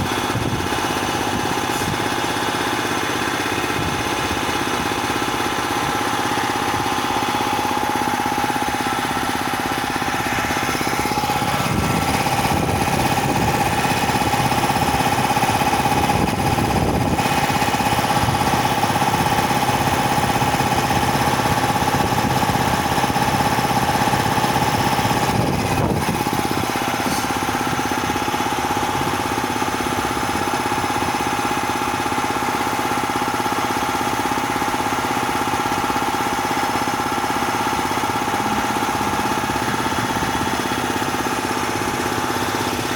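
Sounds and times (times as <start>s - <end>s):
piston compressor whining: 0.0s - 42.9s.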